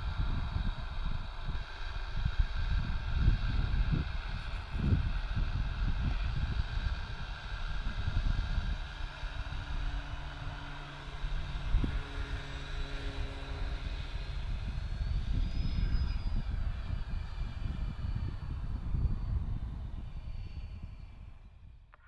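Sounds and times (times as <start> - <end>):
wind buffeting microphone: 0.0 - 21.9
model plane motor whining: 0.0 - 22.0.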